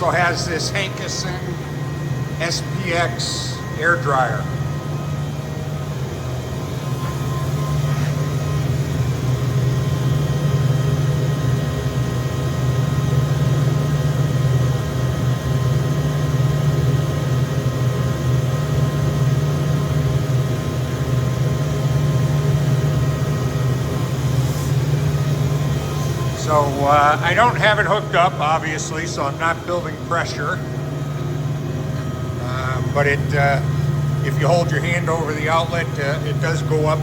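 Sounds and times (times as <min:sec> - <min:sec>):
air compressor humming: 0:00.0 - 0:37.0.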